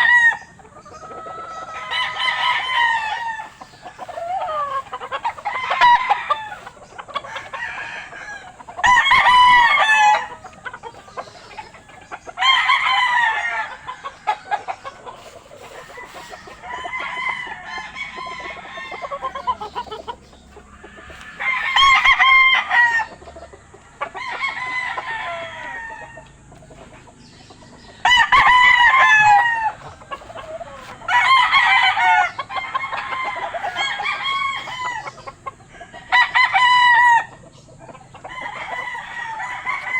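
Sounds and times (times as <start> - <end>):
rooster crowing: 0.0 - 0.6, 1.2 - 10.6, 12.3 - 23.2, 23.9 - 26.4, 28.0 - 37.4, 38.2 - 39.9
clucking and calls: 0.0 - 39.9.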